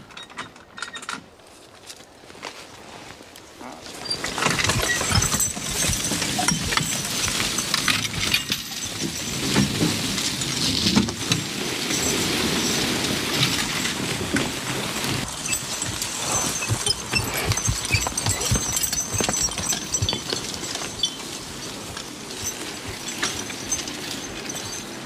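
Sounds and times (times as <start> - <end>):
log dragging over ground: 1.4 - 25.0
metal cart and harness rattling: 3.9 - 25.0.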